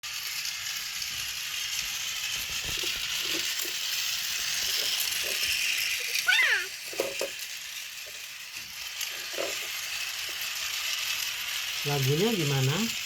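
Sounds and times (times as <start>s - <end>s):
toy train whirring rattle: 0.0s - 13.0s.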